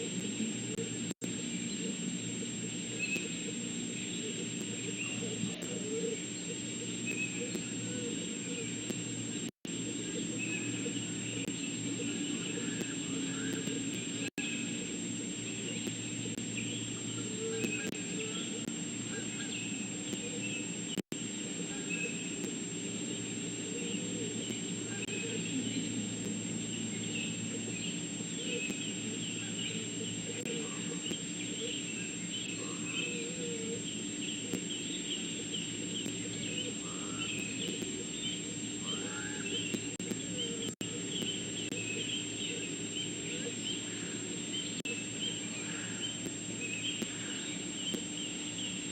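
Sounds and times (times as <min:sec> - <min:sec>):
small birds chirping: 0:00.0 - 0:48.9
steady hiss and hum: 0:00.0 - 0:48.9.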